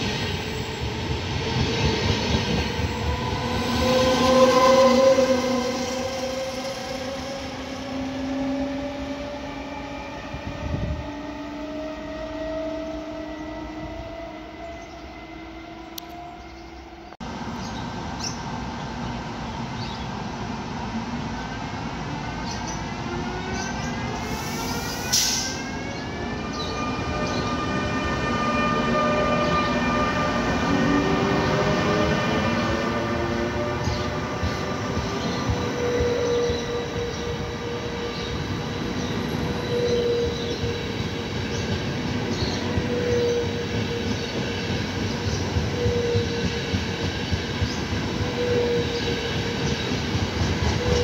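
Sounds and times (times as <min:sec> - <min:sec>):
electric locomotive traction whine: 0:00.0 - 0:18.2, 0:22.4 - 0:51.0
train passing close by: 0:00.0 - 0:51.0.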